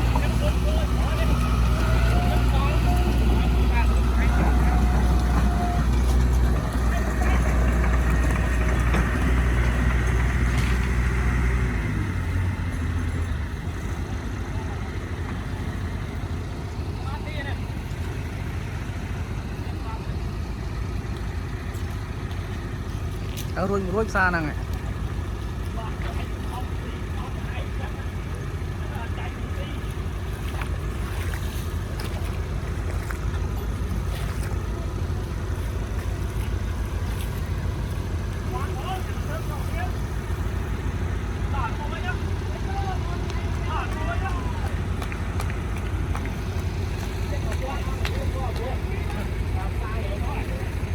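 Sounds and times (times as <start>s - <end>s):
heavy diesel engine humming: 0.0s - 50.9s.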